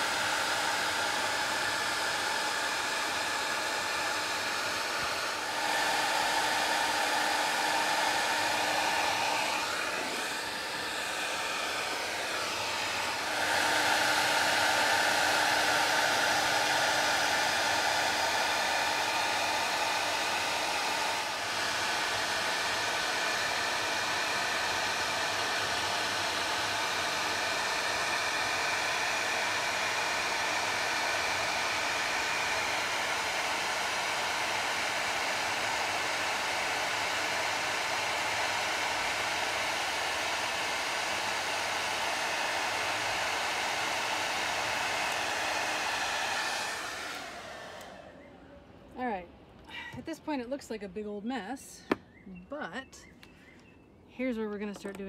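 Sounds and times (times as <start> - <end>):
hair dryer blowing: 0.0 - 52.0.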